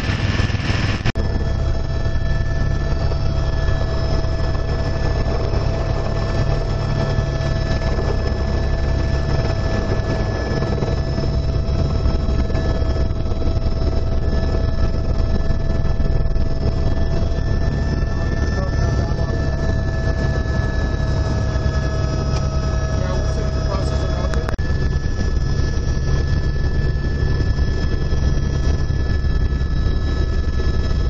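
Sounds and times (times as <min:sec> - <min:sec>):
helicopter low rumble: 0:00.0 - 0:31.0
helicopter whining tones: 0:00.0 - 0:31.0.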